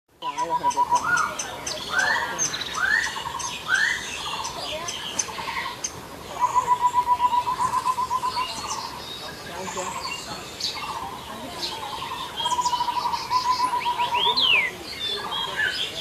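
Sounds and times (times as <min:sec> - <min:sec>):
rising bird calls: 0:00.2 - 0:16.0.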